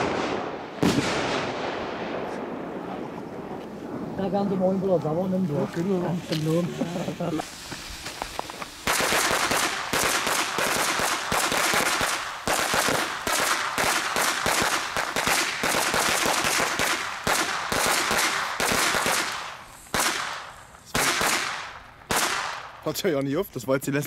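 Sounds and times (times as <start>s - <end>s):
firecrackers banging: 0.0s - 23.0s.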